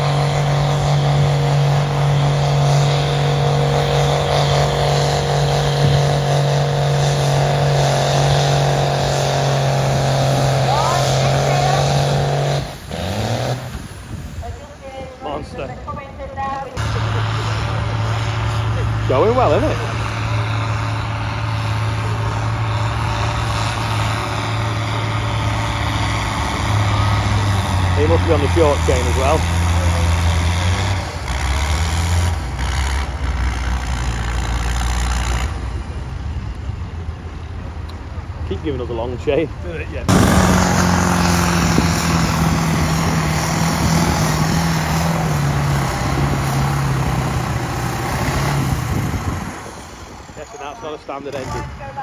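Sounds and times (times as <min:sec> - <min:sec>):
tractor diesel engine droning: 0:00.0 - 0:52.0.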